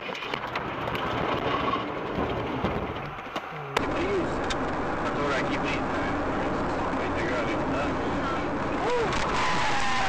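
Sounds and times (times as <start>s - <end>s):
car driving noise: 0.0s - 10.0s
tyres on wet road: 0.0s - 10.0s.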